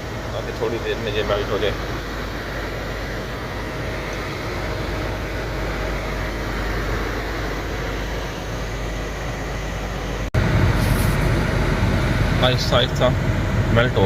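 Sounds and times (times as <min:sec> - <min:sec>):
car engine idling: 0:00.0 - 0:14.0
heater blower rushing air: 0:00.0 - 0:14.0.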